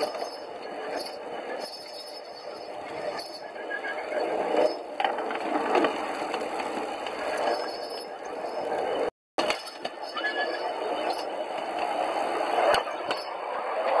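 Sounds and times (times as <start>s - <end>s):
rail car wheels clattering: 0.0s - 14.0s.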